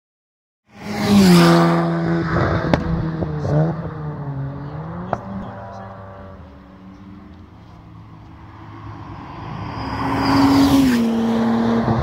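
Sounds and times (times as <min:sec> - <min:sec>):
race car passing at full throttle: 0:00.7 - 0:12.0.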